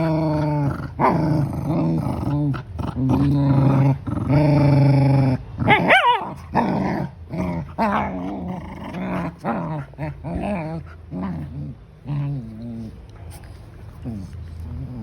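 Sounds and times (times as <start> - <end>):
dogs growling: 0.0 - 15.0.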